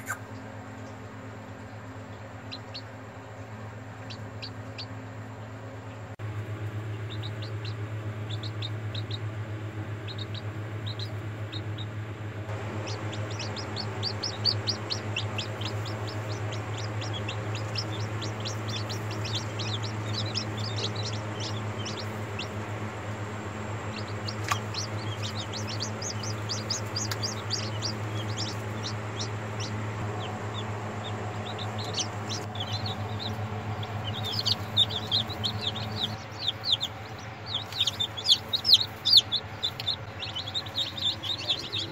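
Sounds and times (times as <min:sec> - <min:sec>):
chicks peeping: 0:00.0 - 0:41.9
steady low hum: 0:00.0 - 0:41.9.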